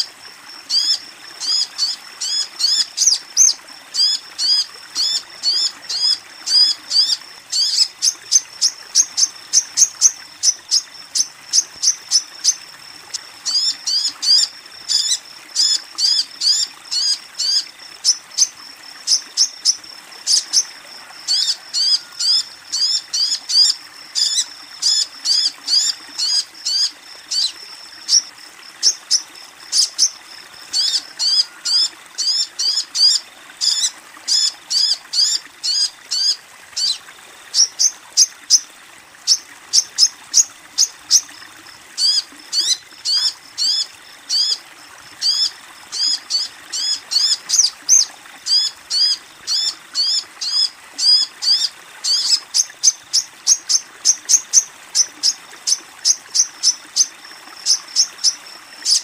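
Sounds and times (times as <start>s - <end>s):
running water trickle: 0.0s - 59.0s.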